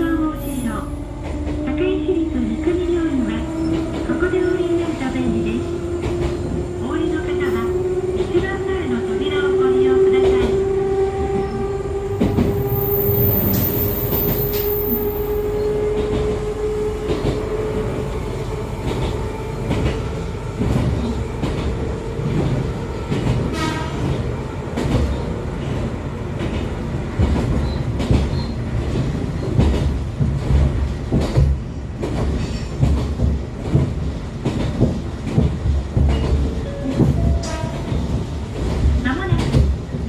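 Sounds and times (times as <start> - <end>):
train rumble over rail joints: 0.0 - 40.0.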